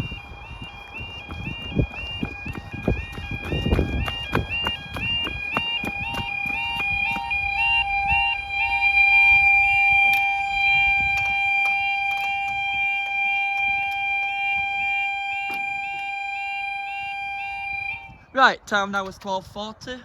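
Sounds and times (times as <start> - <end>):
level crossing alarm warbling: 0.0 - 18.2.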